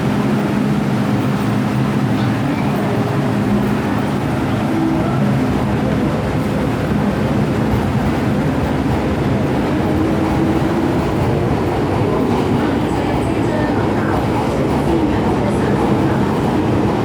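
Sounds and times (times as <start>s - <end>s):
electric train running: 0.0s - 17.0s.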